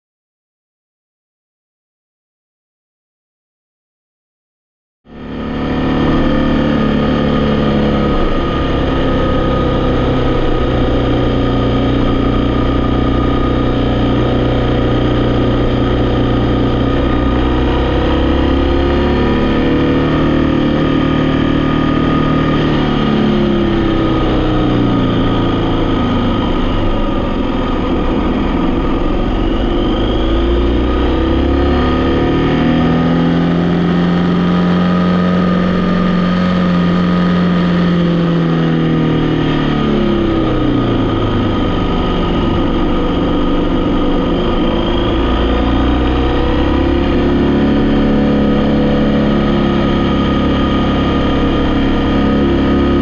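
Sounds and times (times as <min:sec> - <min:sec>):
vehicle engine running: 0:05.1 - 0:53.0.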